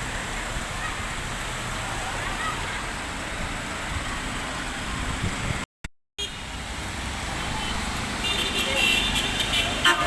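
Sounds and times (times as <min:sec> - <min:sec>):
passing traffic: 0:00.0 - 0:10.0.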